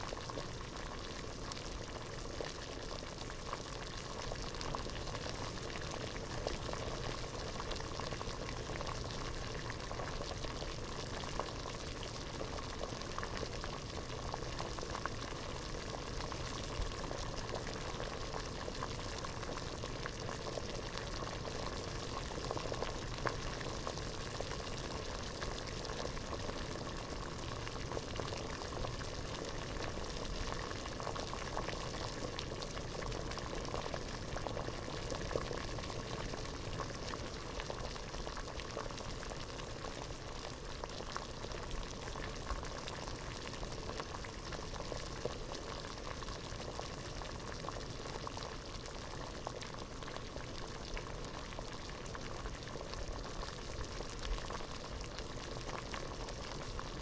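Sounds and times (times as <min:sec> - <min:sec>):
water boiling in a pot: 0:00.0 - 0:57.0.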